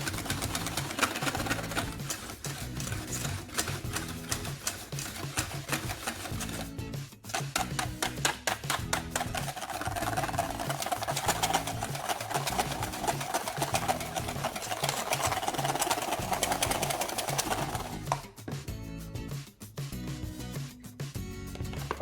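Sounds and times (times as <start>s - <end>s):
fast dense clicking: 0.0s - 6.7s, 7.3s - 18.2s.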